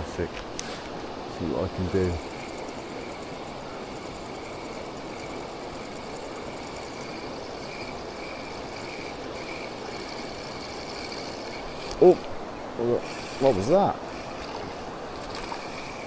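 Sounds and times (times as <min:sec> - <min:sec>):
water rushing over a weir: 0:00.5 - 0:16.0.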